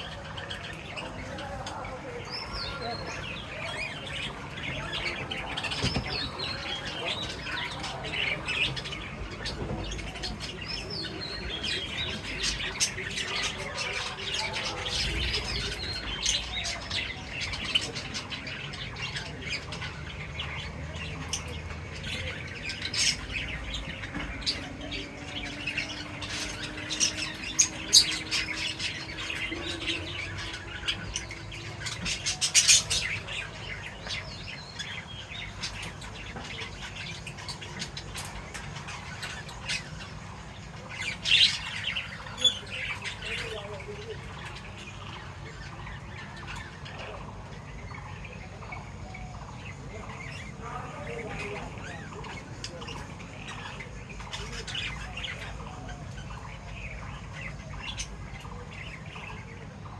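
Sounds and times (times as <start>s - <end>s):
pet birds chirping and squawking: 0.0s - 59.9s.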